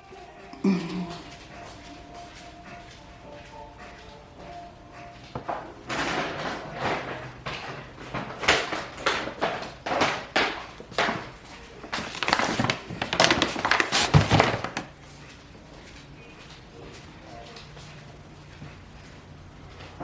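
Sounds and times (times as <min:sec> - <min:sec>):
plastic bags rustling: 0:00.0 - 0:20.0.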